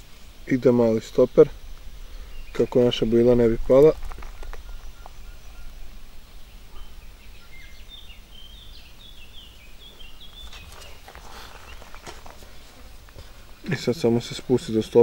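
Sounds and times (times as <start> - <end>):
low steady rumble: 0.0 - 14.8
small bird singing: 1.0 - 15.0.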